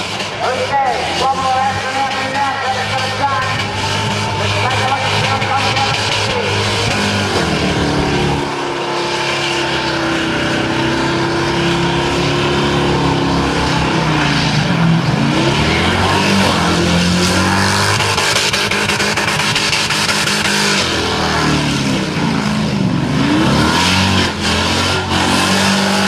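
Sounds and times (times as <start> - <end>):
engine revving at high revs: 0.0 - 26.0.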